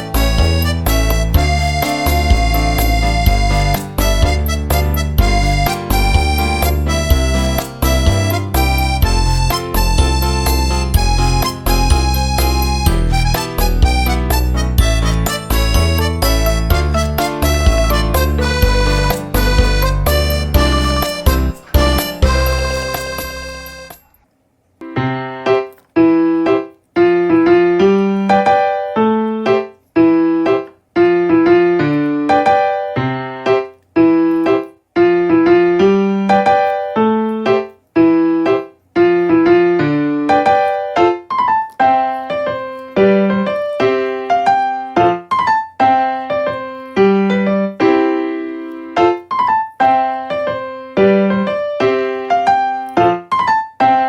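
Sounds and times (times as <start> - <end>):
piano melody: 0.0 - 24.2, 24.8 - 54.0.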